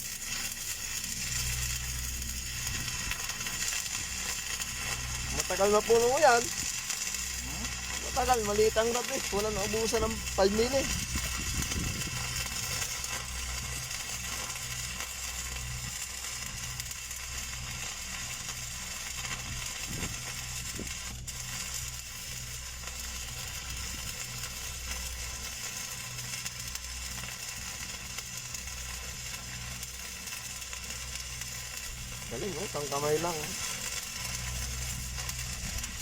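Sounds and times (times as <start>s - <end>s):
welding arc crackling hiss: 0.0s - 36.0s.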